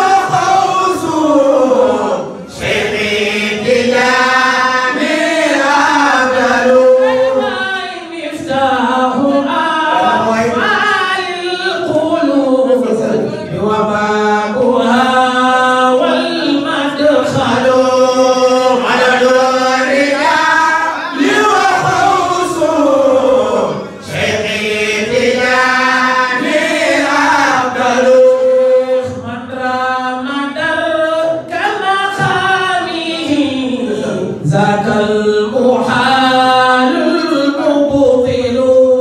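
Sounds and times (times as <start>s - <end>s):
man chanting through a microphone: 0.0s - 39.0s.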